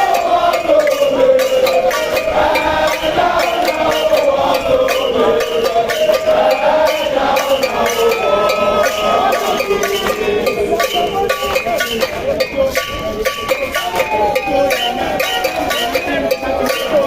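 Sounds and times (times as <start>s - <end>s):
metallic percussion hits: 0.0s - 17.0s
voices singing a wavering melody: 0.0s - 17.0s.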